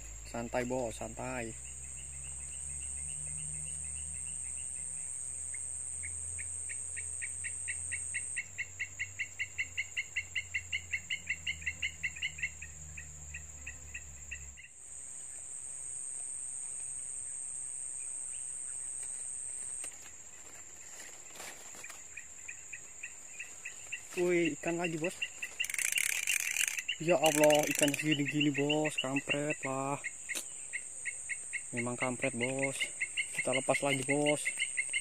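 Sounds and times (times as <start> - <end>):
high-pitched insect drone: 0.0 - 35.0
rhythmic insect chirping: 0.0 - 35.0.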